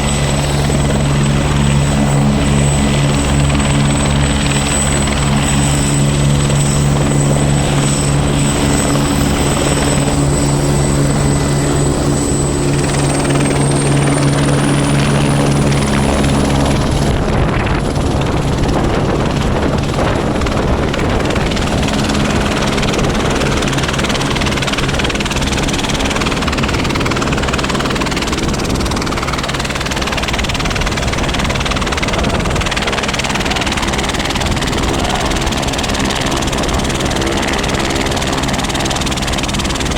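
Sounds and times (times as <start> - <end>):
helicopter running: 0.0 - 39.9
high turbine whine: 0.0 - 39.9
steady rushing noise: 0.0 - 39.9.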